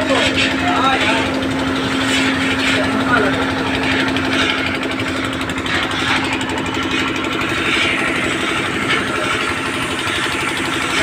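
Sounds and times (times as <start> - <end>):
machinery humming and pulsing: 0.0 - 11.0.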